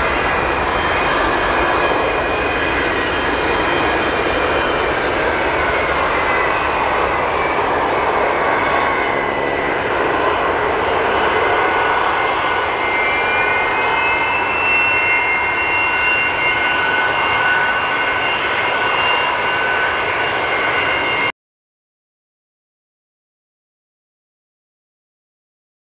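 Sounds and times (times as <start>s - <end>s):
high engine whine: 0.0s - 21.3s
jet engines at takeoff: 0.0s - 21.3s.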